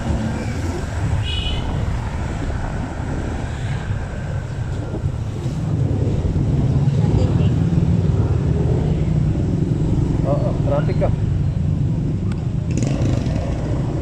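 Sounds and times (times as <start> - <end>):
road noise: 0.0 - 14.0
wind on microphone: 0.0 - 14.0.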